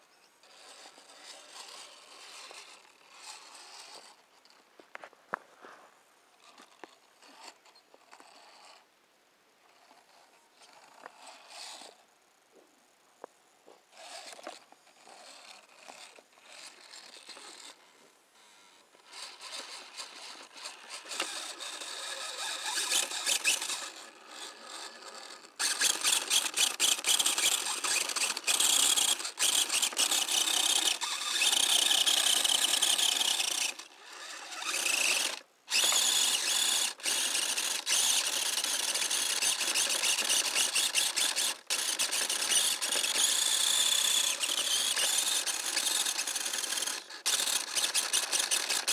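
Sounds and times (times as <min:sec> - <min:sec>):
rc car electric motor whining: 0:00.4 - 0:04.6, 0:06.4 - 0:08.9, 0:09.7 - 0:12.0, 0:13.9 - 0:48.9.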